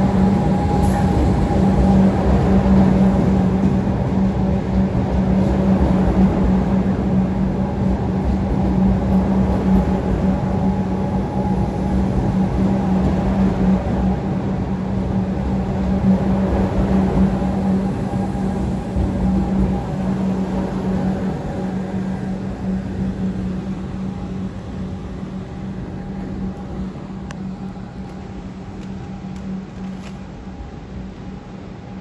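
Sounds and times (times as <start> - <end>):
electric train passing: 0.0 - 32.0.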